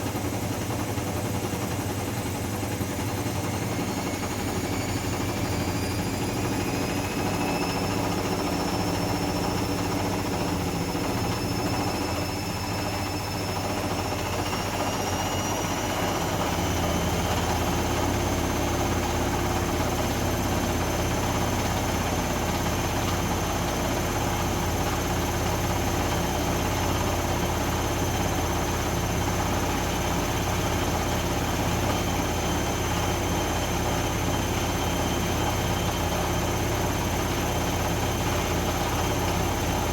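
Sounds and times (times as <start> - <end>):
washing machine motor whine: 0.0 - 39.9.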